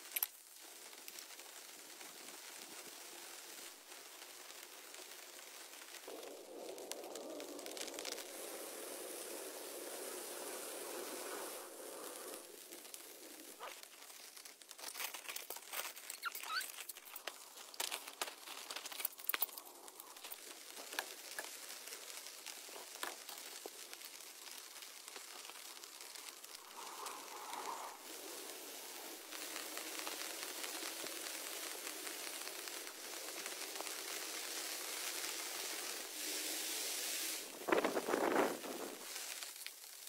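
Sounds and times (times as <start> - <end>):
rain pattering on a tarp: 0.0 - 40.0
wet tarp crinkling and crackling: 0.0 - 40.0.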